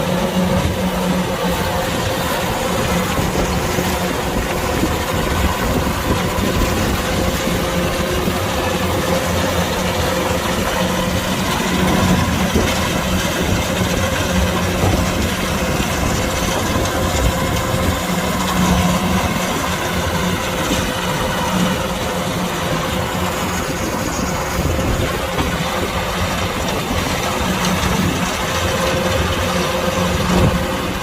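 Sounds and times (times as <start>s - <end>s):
combine harvester engine droning: 0.0s - 31.0s.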